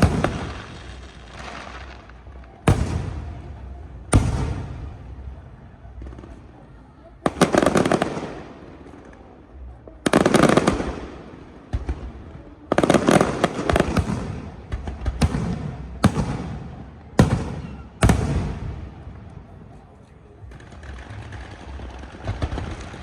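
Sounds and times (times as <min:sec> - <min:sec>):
fireworks banging and crackling: 0:00.0 - 0:23.0.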